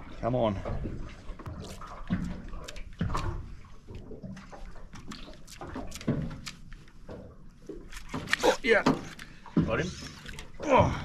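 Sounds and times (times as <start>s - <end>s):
water slapping boat hull: 0.0s - 11.0s.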